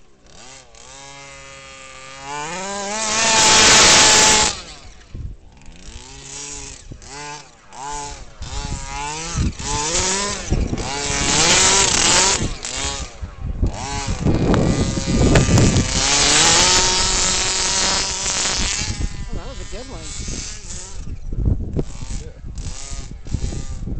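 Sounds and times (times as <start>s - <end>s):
rc truck engine revving: 0.0s - 23.9s.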